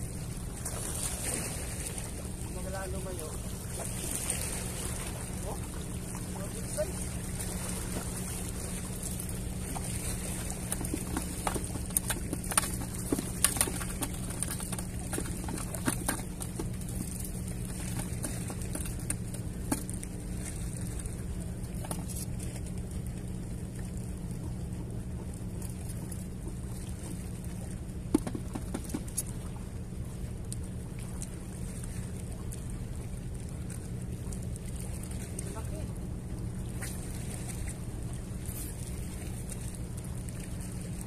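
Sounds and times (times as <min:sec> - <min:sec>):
water along a seawall: 0:00.0 - 0:41.0
wind: 0:00.0 - 0:41.0.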